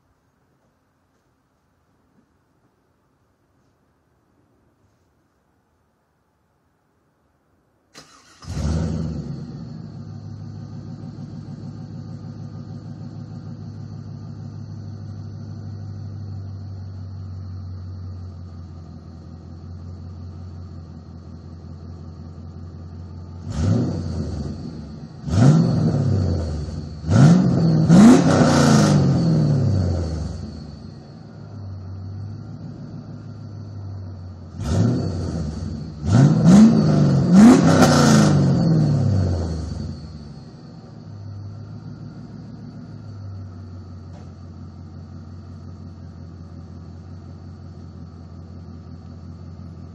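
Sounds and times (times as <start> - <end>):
car engine idling and revving: 7.9 - 49.9.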